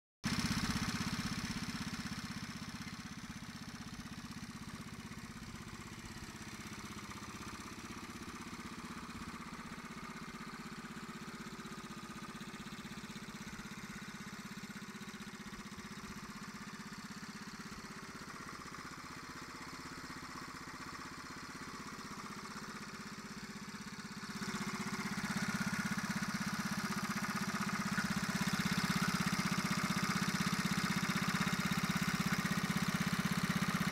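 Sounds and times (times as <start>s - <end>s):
small engine idling: 0.2s - 33.9s.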